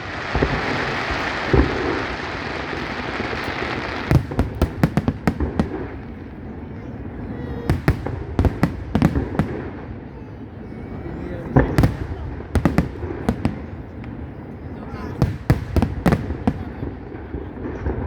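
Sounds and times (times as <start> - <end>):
fireworks bangs: 0.0 - 18.0
fireworks hissing: 0.0 - 18.0.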